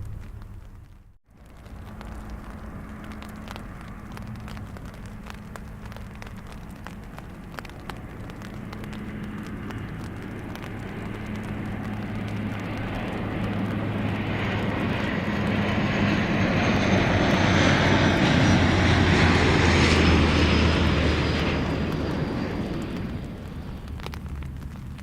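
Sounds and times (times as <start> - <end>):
airliner engines passing by: 0.0 - 25.0
high jet whine: 1.5 - 24.7.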